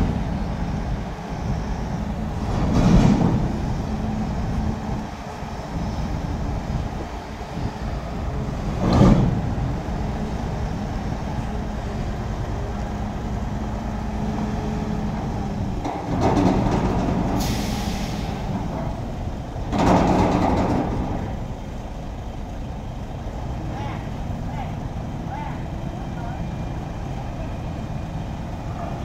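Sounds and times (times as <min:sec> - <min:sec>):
diesel engine rumbling: 0:00.0 - 0:29.0.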